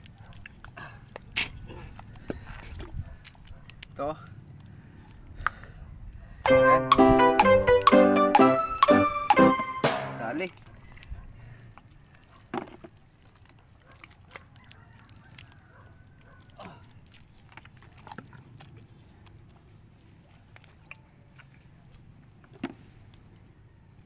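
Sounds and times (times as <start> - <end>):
wet mud squelches: 0.0 - 6.4, 10.4 - 24.0.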